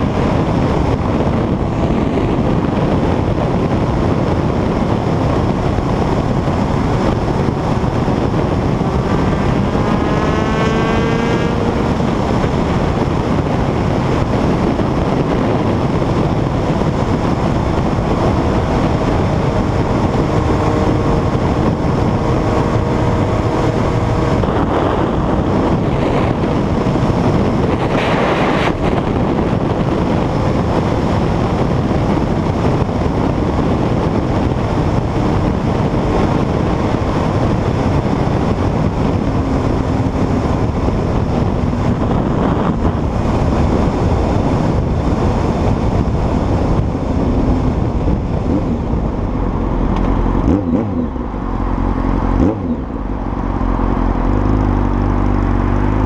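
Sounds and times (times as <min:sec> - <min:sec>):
heavy wind rush on microphone: 0:00.0 - 0:56.0
motorcycle engine at road speed: 0:00.0 - 0:56.0.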